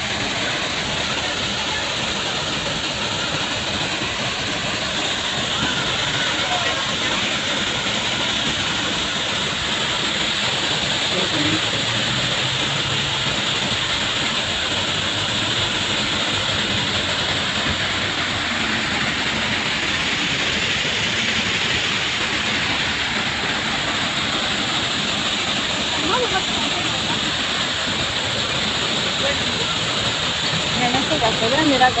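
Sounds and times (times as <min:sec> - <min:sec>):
water splashing in a fountain: 0:00.0 - 0:32.0.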